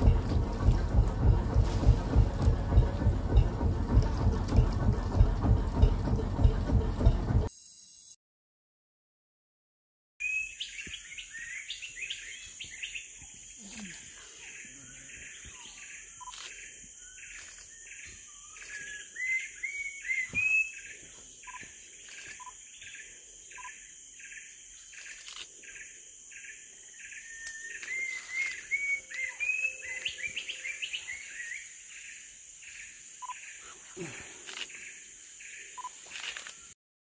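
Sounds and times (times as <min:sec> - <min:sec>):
birds chirping: 0:00.0 - 0:07.4, 0:10.2 - 0:36.8.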